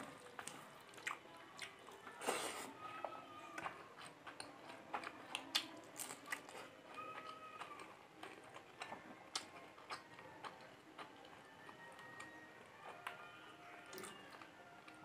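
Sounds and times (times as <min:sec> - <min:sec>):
mouth sounds of eating: 0:00.0 - 0:15.0.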